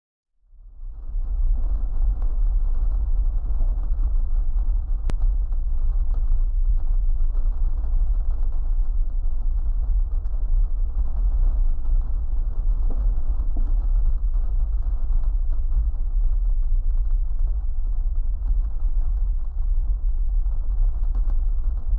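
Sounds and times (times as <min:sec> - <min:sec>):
avalanche rumbling: 0:00.7 - 0:21.9.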